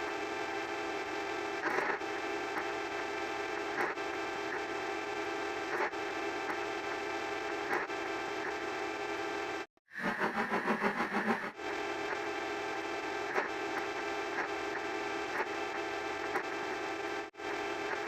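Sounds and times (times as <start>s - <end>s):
buzzing electronic hum: 0.0s - 18.0s.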